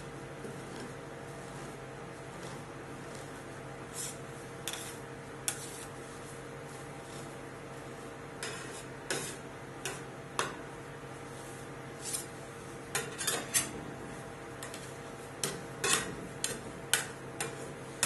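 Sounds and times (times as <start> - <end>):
steady low machine hum: 0.0 - 18.0.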